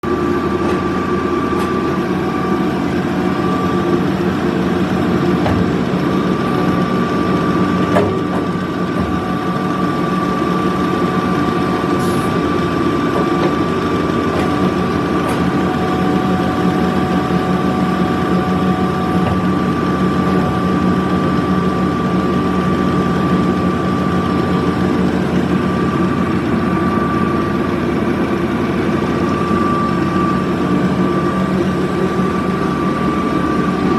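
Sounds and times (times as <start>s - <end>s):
high whine: 1.0s - 33.9s.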